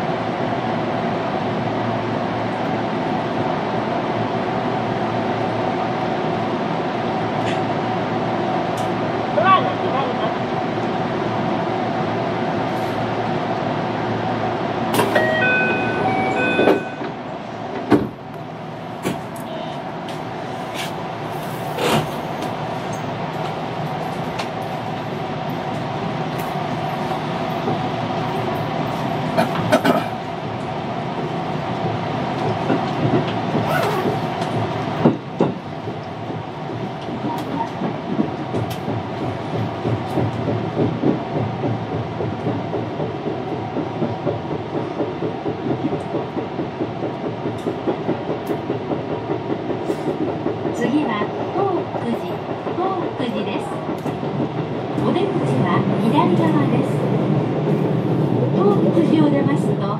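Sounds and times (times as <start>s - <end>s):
train motors and wheels droning: 0.0s - 59.9s.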